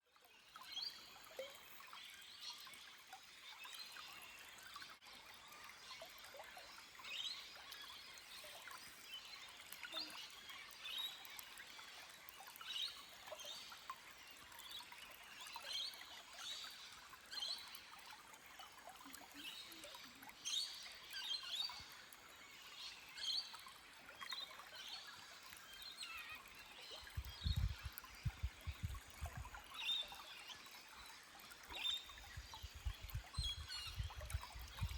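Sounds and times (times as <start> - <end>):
water trickling over rocks: 0.0 - 34.9
small birds chirping: 3.4 - 34.9.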